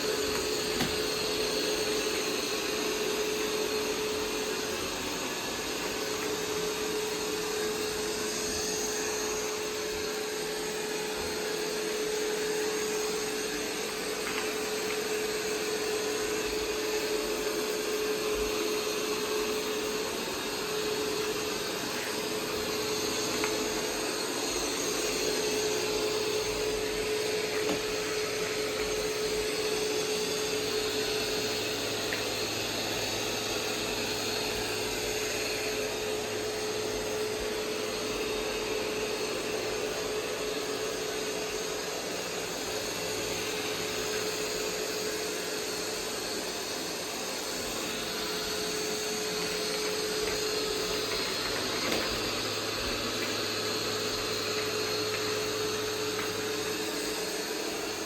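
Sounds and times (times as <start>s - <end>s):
robot vacuum running: 0.0s - 58.0s.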